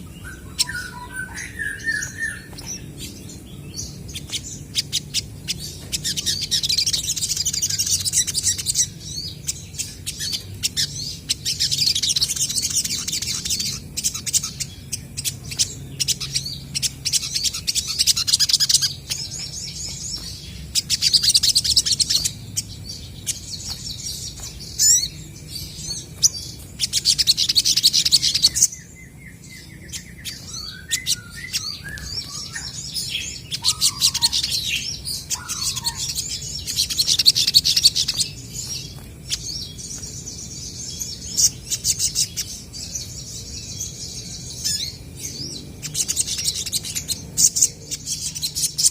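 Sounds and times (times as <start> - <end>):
birds chattering trills: 0.0 - 48.9.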